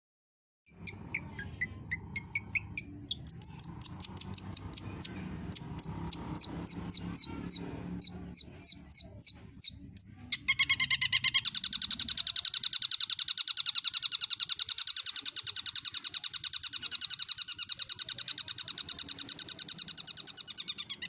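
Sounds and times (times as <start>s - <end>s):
shrike buzzy chatter: 0.7s - 21.0s.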